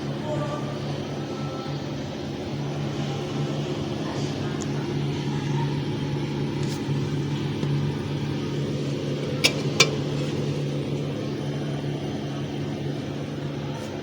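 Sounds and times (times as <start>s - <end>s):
refrigerator compressor humming: 0.0s - 14.0s.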